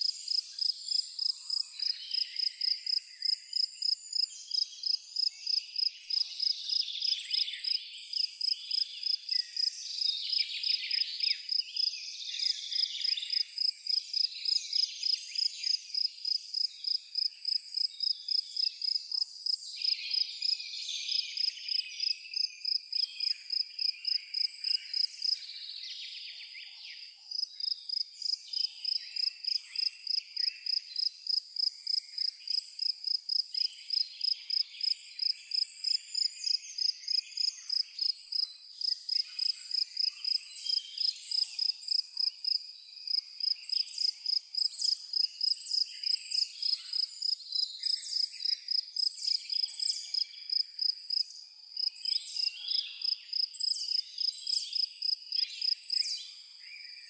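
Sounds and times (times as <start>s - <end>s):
cricket chirping: 0.0s - 20.6s, 21.4s - 25.6s, 27.3s - 57.0s.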